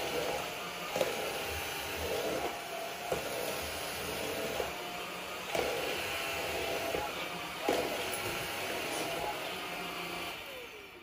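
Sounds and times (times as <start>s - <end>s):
stick vacuum running on carpet: 0.0s - 11.0s.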